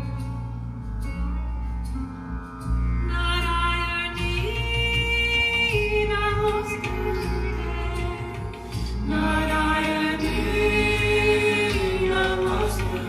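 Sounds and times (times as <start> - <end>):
low bass: 0.0 - 13.0
music with singing: 0.0 - 13.0.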